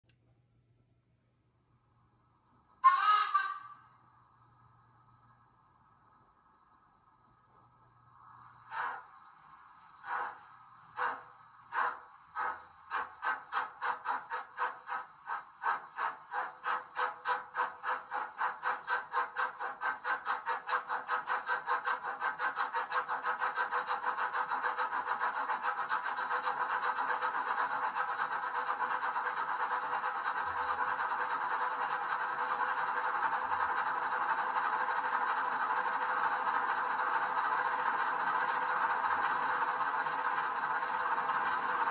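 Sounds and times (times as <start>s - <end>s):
steam locomotive chuffs from speaker: 2.8s - 5.3s, 5.9s - 41.9s.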